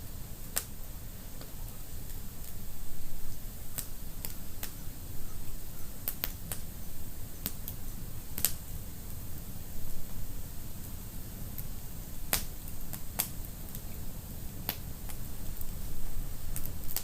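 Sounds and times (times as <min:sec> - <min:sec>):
wood fire crackling in fireplace: 0:00.0 - 0:17.0.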